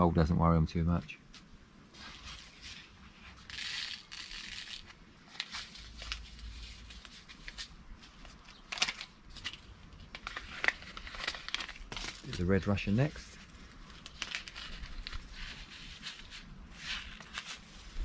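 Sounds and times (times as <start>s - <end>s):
paper packet rustling: 2.0s - 18.0s.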